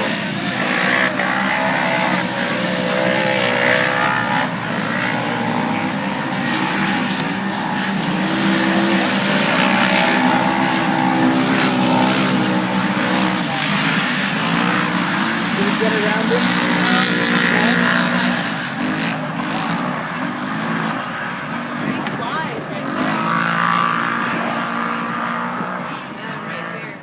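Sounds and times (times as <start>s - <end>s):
race vehicle engine revving: 0.0s - 27.0s.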